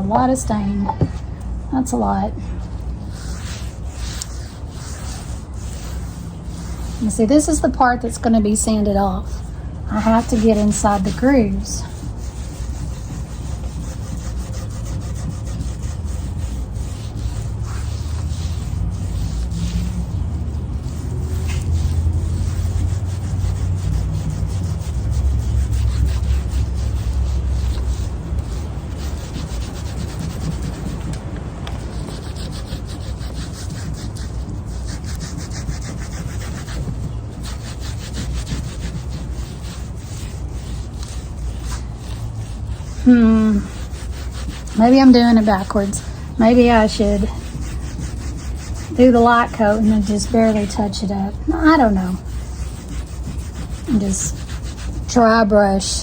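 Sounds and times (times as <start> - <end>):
applicator rubbing on wood: 0.0 - 56.0
low steady hum: 0.0 - 56.0
scrubbing stain into wood: 1.8 - 56.0.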